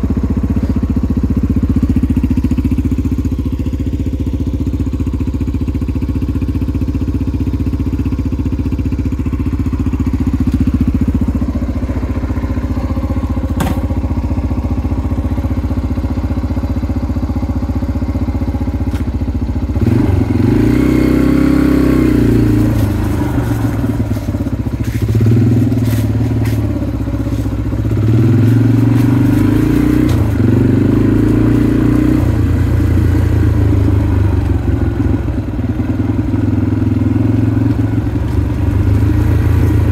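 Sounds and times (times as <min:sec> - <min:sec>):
dirt bike engine idling and revving: 0:00.0 - 0:39.9.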